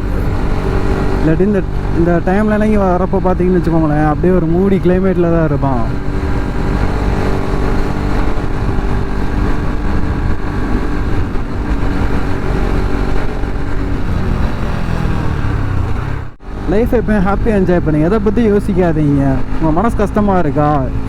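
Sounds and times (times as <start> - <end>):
motorcycle engine running: 0.0 - 21.0
wind rumble on microphone: 0.0 - 21.0.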